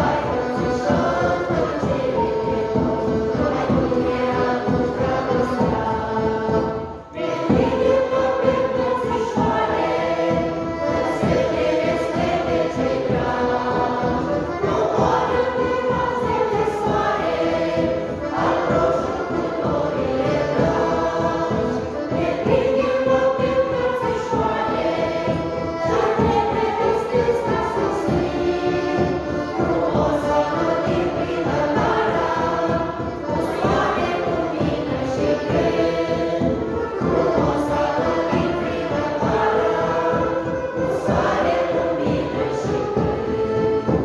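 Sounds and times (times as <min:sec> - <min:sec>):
accordion: 0:00.0 - 0:44.0
choir singing folk song: 0:00.0 - 0:44.0.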